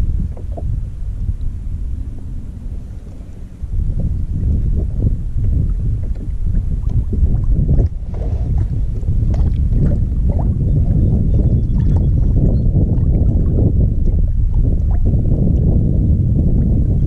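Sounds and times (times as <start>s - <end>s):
water lapping at kayak hull: 0.0s - 17.0s
wind buffeting microphone: 0.0s - 17.0s.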